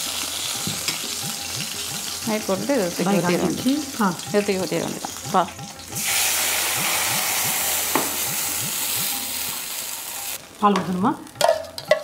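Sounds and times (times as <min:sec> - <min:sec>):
batter sizzling in hot ghee: 0:00.0 - 0:11.8.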